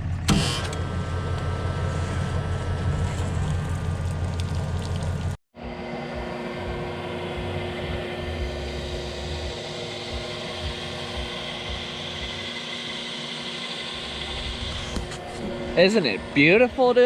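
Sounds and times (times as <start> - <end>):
vehicle engine rumbling: 0.0 - 5.4, 6.0 - 17.0
quiet drone with faint hum: 1.8 - 17.0.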